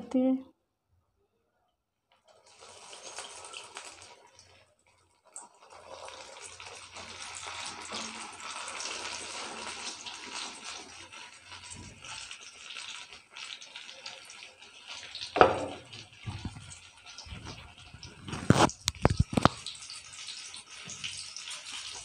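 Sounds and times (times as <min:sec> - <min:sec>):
oil sizzling and bubbling: 0:02.1 - 0:22.0.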